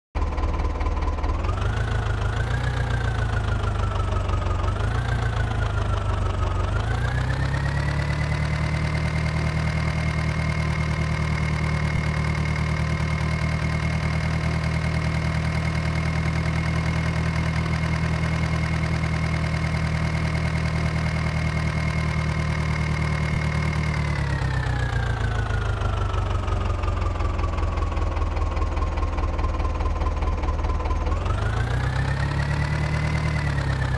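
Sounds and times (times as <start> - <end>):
tractor engine idling and revving: 0.2 - 33.9.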